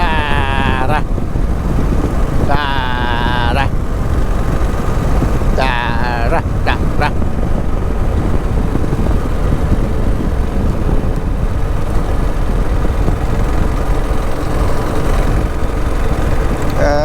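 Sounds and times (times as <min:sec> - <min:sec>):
motorcycle engine drone: 0:00.0 - 0:17.0
wind rumble: 0:00.0 - 0:17.0.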